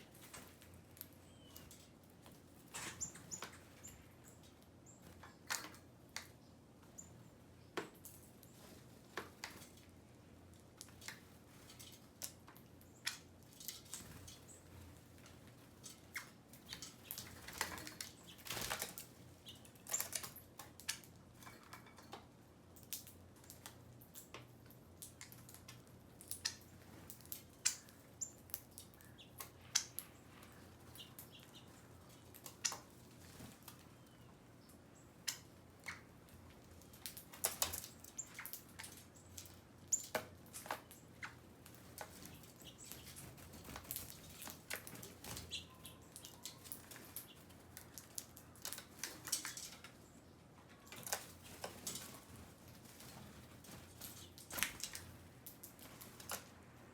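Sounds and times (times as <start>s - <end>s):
birds pecking clicks and taps: 0.2s - 7.0s, 7.7s - 30.2s, 30.8s - 56.5s.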